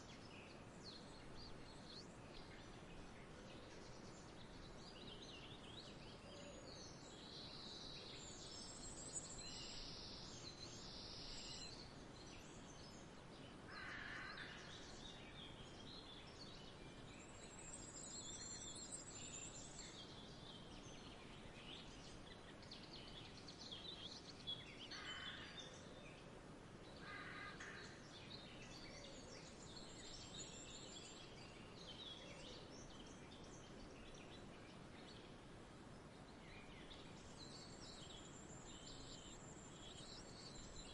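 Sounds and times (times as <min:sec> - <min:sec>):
small birds chirping: 0:00.0 - 0:13.7, 0:14.3 - 0:40.9
soft background hiss: 0:00.0 - 0:40.9.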